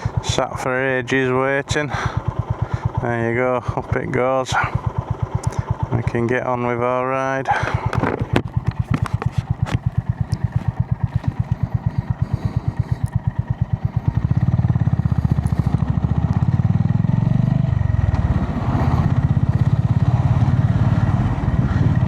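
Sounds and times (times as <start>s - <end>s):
motorcycle engine idling and pulling away: 0.0s - 22.0s.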